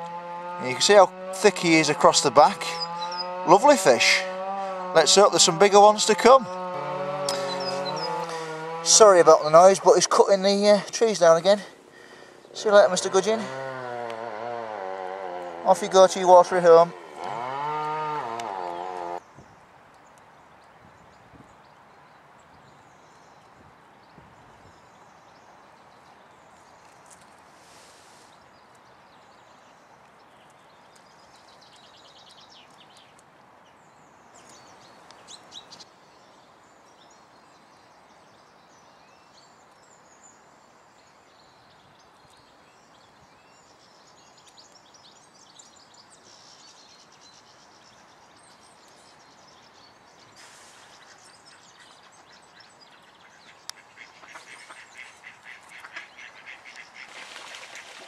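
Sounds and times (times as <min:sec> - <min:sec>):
songbirds trilling: 0:00.0 - 0:58.0.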